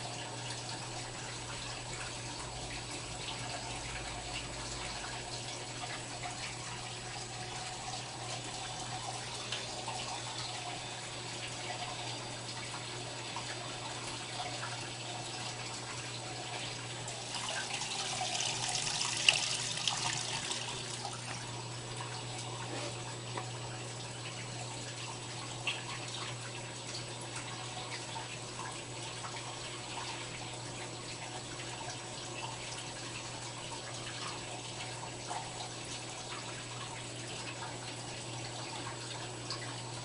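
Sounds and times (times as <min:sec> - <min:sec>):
water splashing in washing machine: 0:00.0 - 0:40.0.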